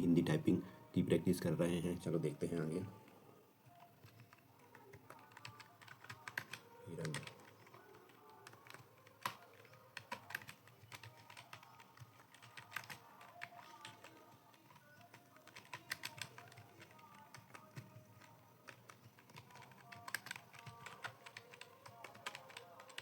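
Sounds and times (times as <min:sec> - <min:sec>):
keyboard typing clicks: 0:03.6 - 0:23.0.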